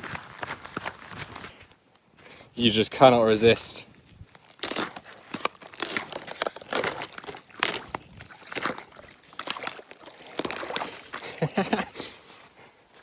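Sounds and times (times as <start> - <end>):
running footsteps on path: 0.0 - 2.4, 3.4 - 13.0.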